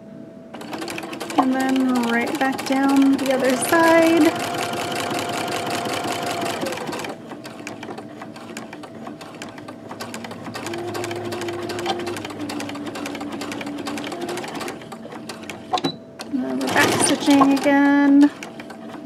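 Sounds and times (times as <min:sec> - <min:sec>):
sewing machine running: 0:00.5 - 0:19.0.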